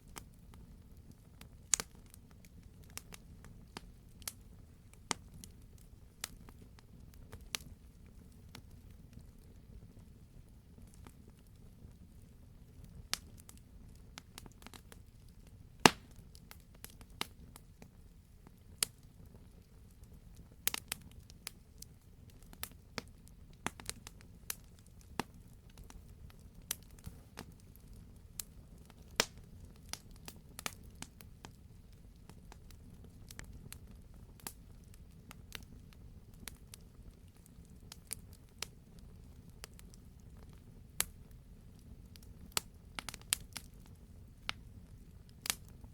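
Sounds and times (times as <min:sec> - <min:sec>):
low rumble of flames: 0:00.0 - 0:45.9
wood fire crackling and popping: 0:00.0 - 0:45.9.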